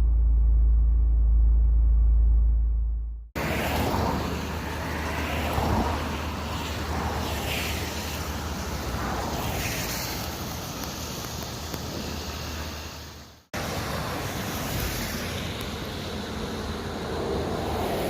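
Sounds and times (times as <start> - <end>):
torrential rain pouring: 3.4 - 18.0.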